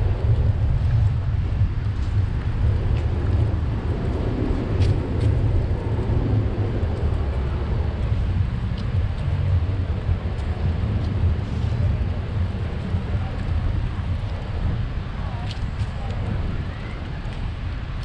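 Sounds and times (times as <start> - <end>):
road and traffic noise: 0.0 - 18.0
wind buffeting microphone: 0.0 - 18.0.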